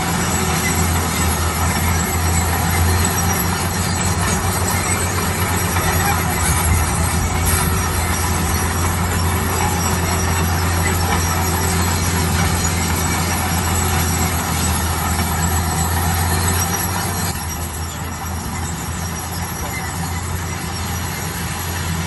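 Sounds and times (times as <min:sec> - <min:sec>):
broad mechanical noise: 0:00.0 - 0:22.0
deep engine drone: 0:00.0 - 0:22.0.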